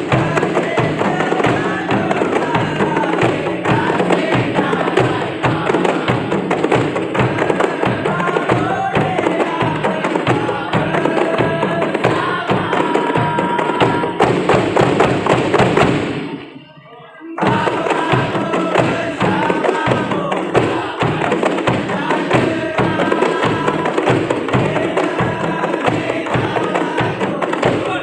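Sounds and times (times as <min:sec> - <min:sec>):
frame drums in fast rhythm: 0:00.0 - 0:16.4, 0:17.4 - 0:28.0
voices singing: 0:00.0 - 0:28.0.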